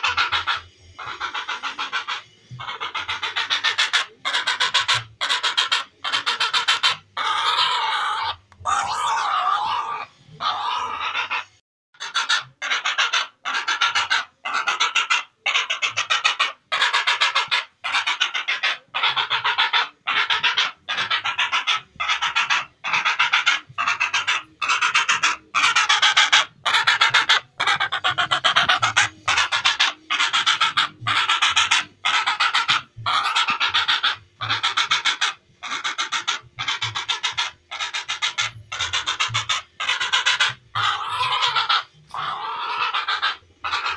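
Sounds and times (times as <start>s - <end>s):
heron rasping calls: 0.0s - 43.9s.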